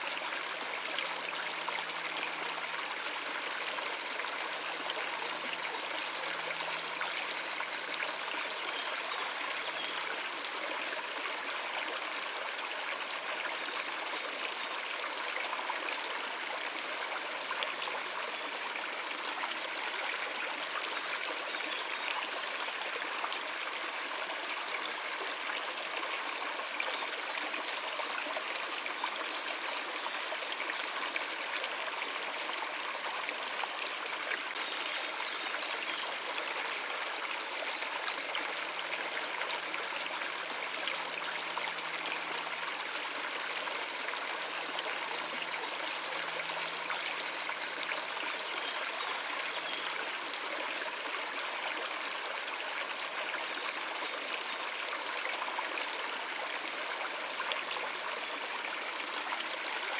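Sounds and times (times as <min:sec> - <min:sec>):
river water running over rocks: 0:00.0 - 0:59.9.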